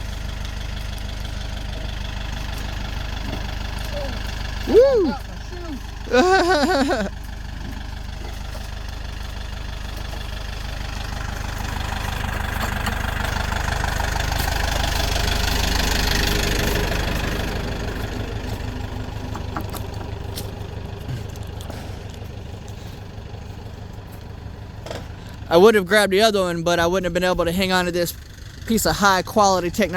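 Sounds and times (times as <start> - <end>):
engine running: 0.0 - 29.9.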